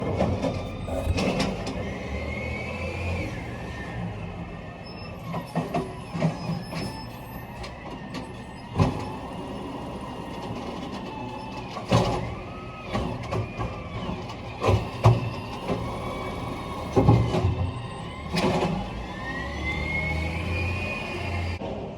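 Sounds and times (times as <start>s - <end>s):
garbage truck engine running: 0.0s - 4.9s, 7.1s - 21.6s.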